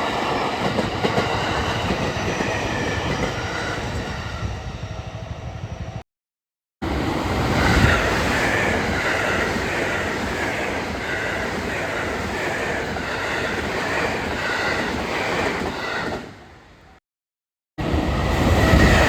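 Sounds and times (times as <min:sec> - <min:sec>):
train rolling on rails: 0:00.0 - 0:06.0, 0:06.9 - 0:17.0, 0:17.8 - 0:19.0.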